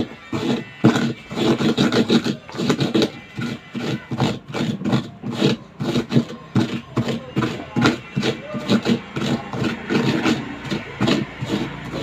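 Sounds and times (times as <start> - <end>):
rhythmic grinding in a dish: 0.0 - 12.0.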